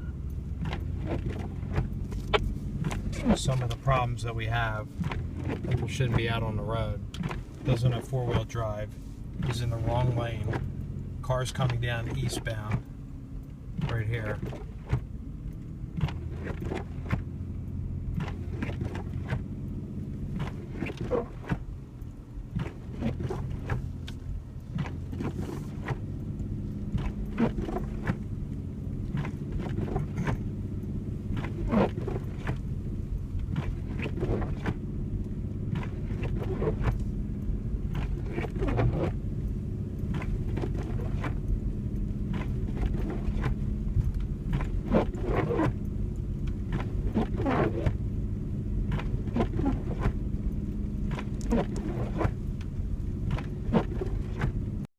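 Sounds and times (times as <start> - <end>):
engine and road hum: 0.0 - 54.9.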